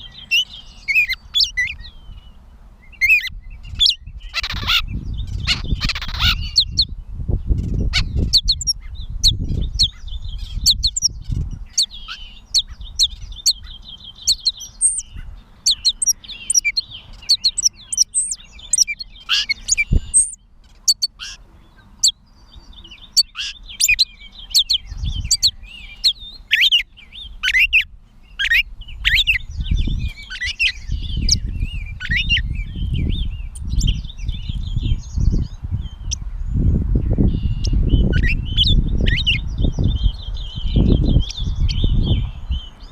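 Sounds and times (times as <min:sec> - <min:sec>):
catbird singing varied chirps: 0:00.0 - 0:42.9.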